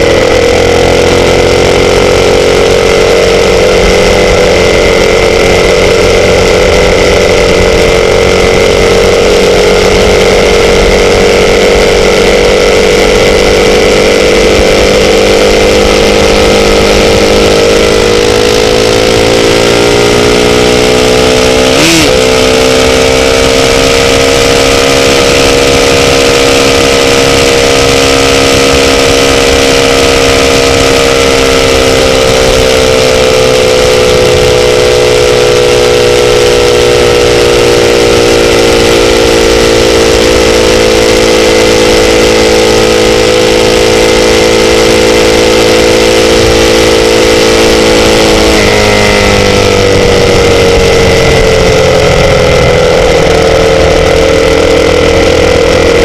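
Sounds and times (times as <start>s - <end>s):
motorcycle engine cruising: 0.0s - 56.0s
steady rush of noise: 0.0s - 56.0s.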